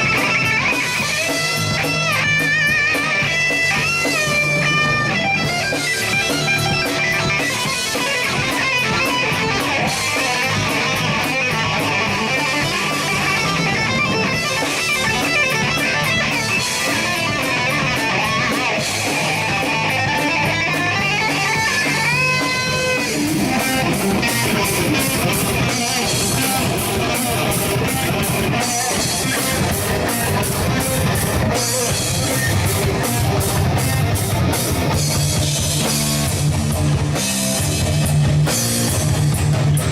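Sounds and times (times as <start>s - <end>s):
bass and drums: 0.0s - 39.9s
electric guitar lead notes: 0.0s - 39.9s.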